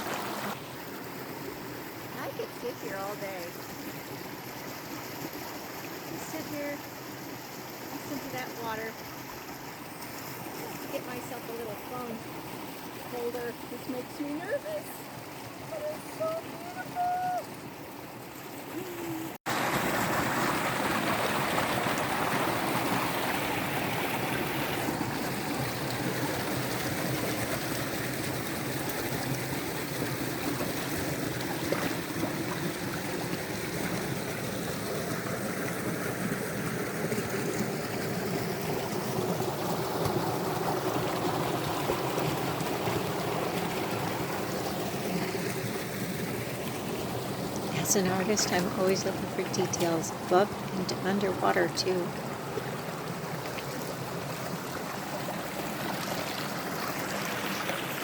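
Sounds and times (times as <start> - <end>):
creek rushing over rocks: 0.0 - 58.0.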